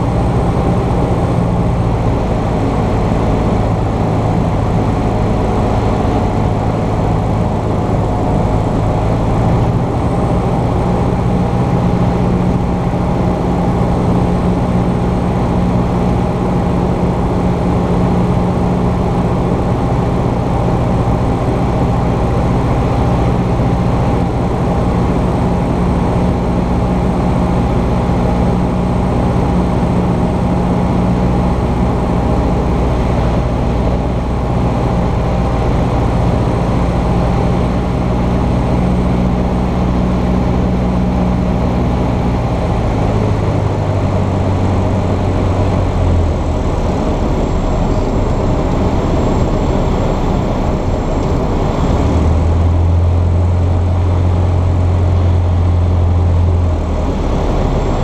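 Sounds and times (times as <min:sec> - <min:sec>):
airplane engine and propeller droning: 0:00.0 - 0:58.0.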